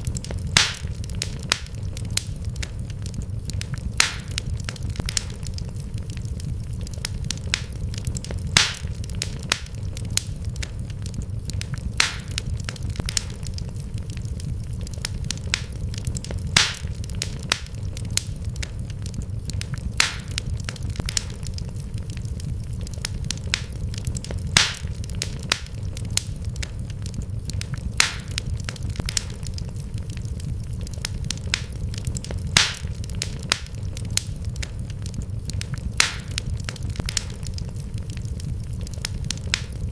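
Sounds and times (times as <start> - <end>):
fire popping and cracking: 0.0 - 39.9
wood fire crackling: 0.0 - 39.9.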